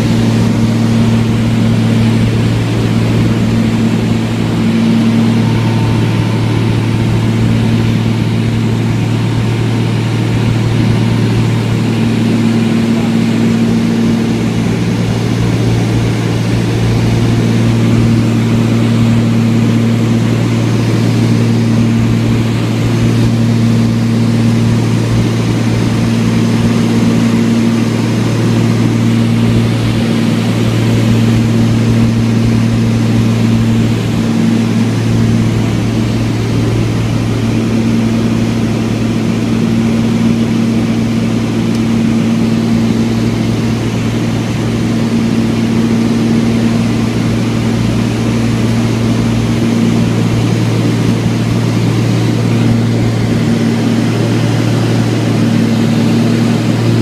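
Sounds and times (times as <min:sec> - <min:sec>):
propeller airplane engine drone: 0:00.0 - 0:57.0.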